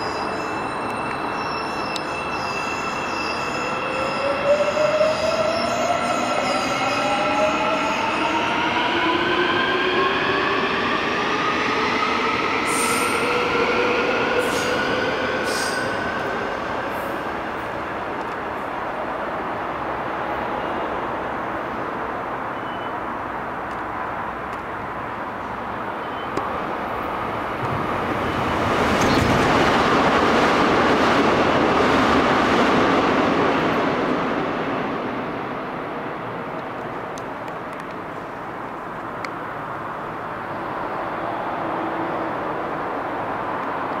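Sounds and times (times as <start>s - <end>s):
electric train rumbling past: 0.0s - 22.3s, 25.1s - 44.0s.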